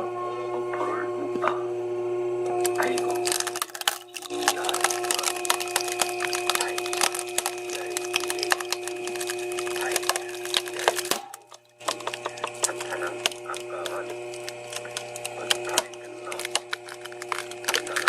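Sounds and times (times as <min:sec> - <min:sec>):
machine motor hum: 0:01.6 - 0:18.0
wood crackling and splintering: 0:02.6 - 0:18.0.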